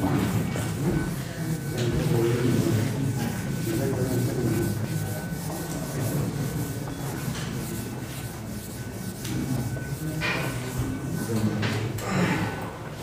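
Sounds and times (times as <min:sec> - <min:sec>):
eraser rubbing on whiteboard: 0:00.0 - 0:11.4.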